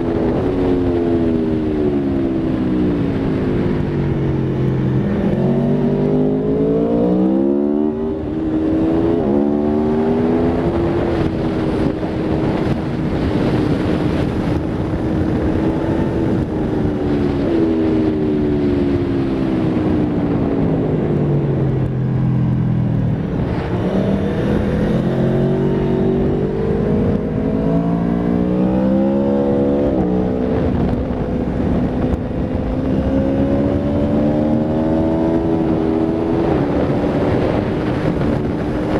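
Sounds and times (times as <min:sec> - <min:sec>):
motorcycle engine revving through gears: 0:00.0 - 0:38.9
steady rush of noise: 0:00.0 - 0:38.9.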